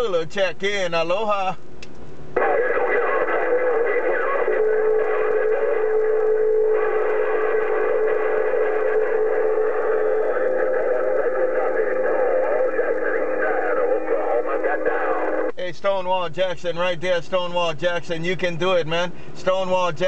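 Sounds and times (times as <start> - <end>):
garbled radio transmission: 2.4 - 20.0
steady radio tone: 2.4 - 20.0.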